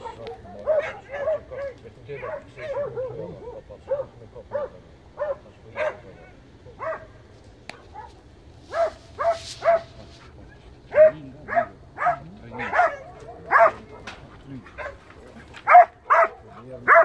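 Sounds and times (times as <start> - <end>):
hound barking: 0.0 - 17.0.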